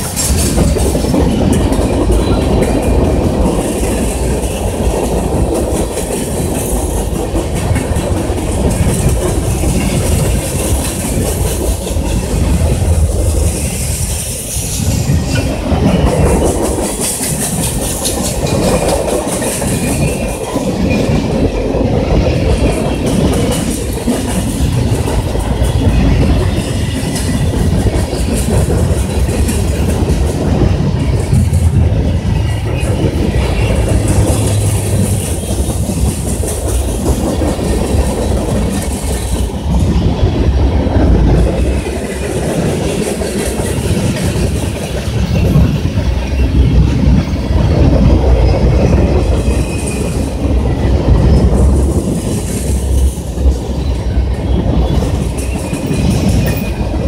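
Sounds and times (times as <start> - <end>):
freight train rumbling past: 0.0 - 57.0
steel wheels clacking over rail joints: 0.0 - 57.0.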